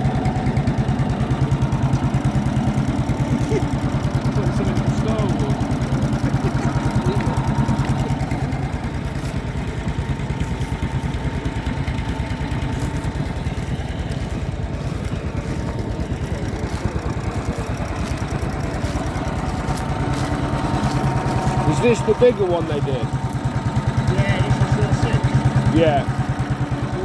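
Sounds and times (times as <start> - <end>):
tractor engine idling: 0.0 - 27.0.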